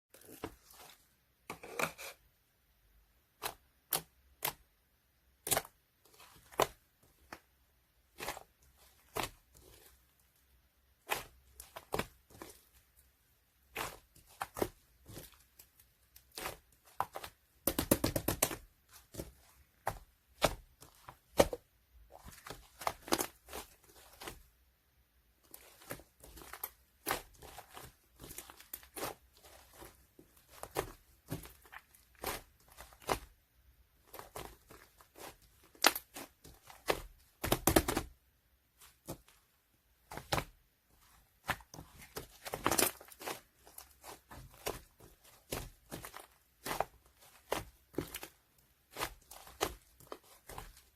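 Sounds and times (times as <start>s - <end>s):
slime crackling by hand: 3.2s - 50.9s.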